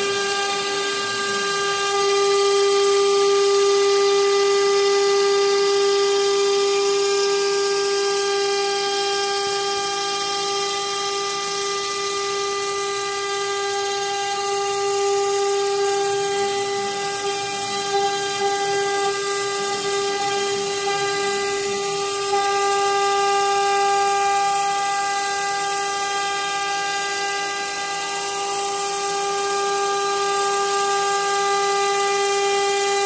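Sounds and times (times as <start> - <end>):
router spindle whine: 0.0 - 33.0.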